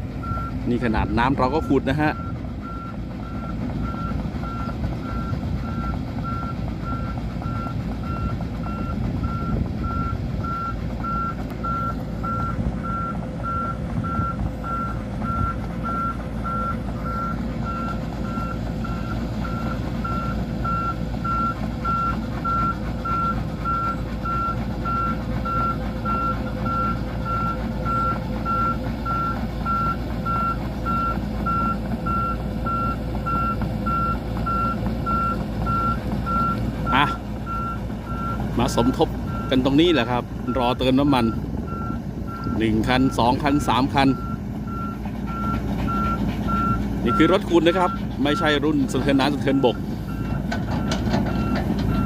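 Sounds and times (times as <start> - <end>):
diesel engine rumble: 0.0 - 52.0
back-up alarm beeping: 1.3 - 39.8, 40.5 - 52.0.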